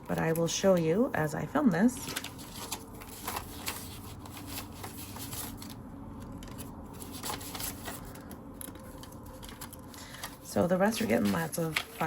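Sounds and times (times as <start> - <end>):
banknotes rustling: 0.0 - 12.0.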